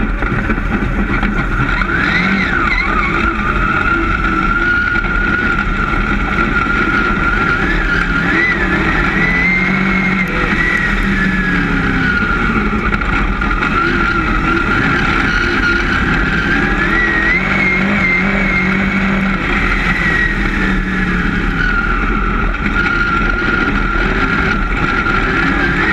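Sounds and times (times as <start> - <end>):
race car engine running hard: 0.0 - 25.9.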